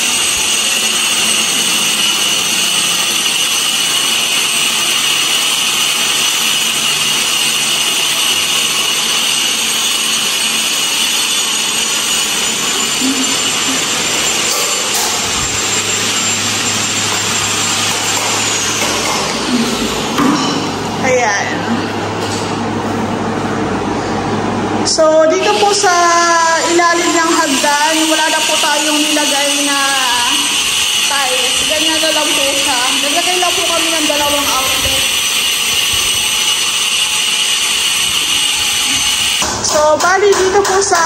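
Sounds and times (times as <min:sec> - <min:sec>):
power tool motor whining: 0:00.0 - 0:20.2, 0:25.2 - 0:39.6.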